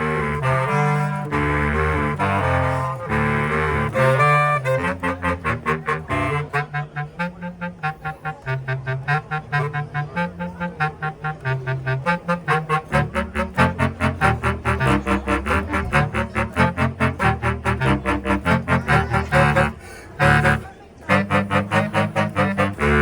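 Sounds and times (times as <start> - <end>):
bass clarinet quartet playing: 0.0 - 23.0.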